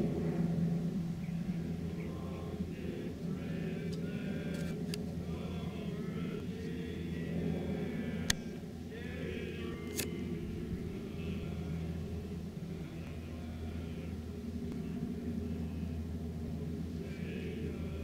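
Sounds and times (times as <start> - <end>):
distant group singing: 0.0 - 18.0
steady low hum: 0.0 - 18.0.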